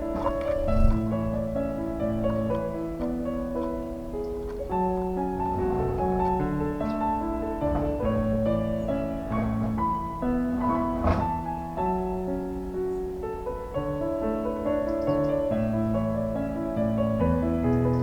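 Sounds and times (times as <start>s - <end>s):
slow solo piano music: 0.0s - 18.0s.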